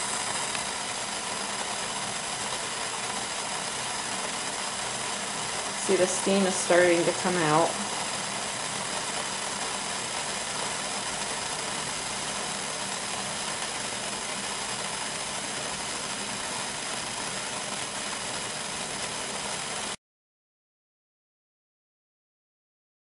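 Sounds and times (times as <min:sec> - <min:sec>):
kettle hissing: 0:00.0 - 0:20.0.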